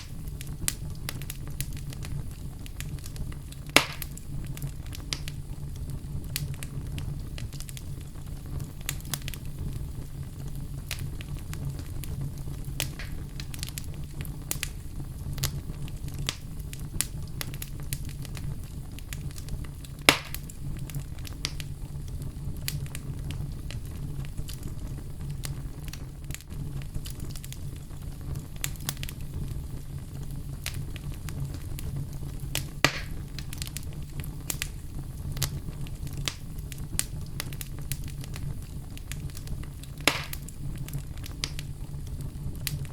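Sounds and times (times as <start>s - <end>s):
fire crackling and popping: 0.0s - 42.9s
loud fire snaps: 0.0s - 42.9s
low rumble of fire: 0.0s - 42.9s.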